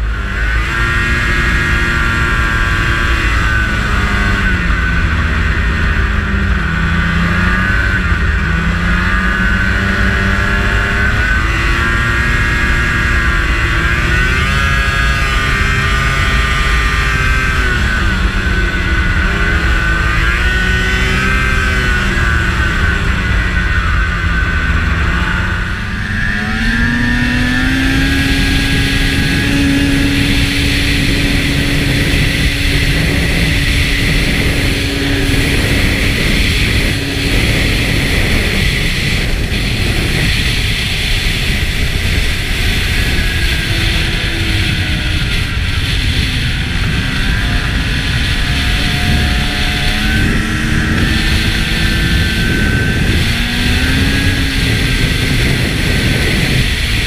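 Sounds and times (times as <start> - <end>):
constant rushing noise: 0.0 - 57.0
snowmobile two-stroke engine: 0.0 - 57.0.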